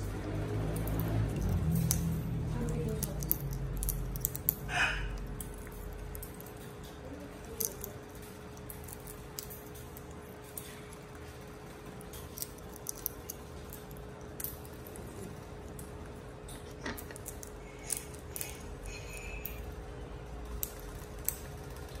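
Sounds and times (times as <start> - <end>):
parrots cracking seed shells: 0.0 - 22.0.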